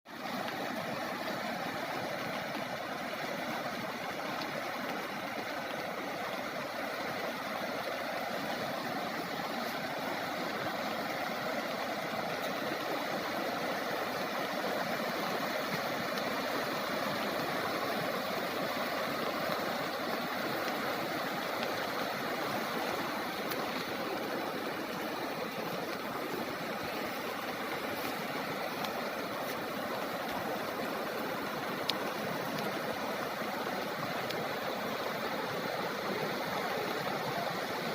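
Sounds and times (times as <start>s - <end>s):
floodwater rushing: 0.1s - 37.9s.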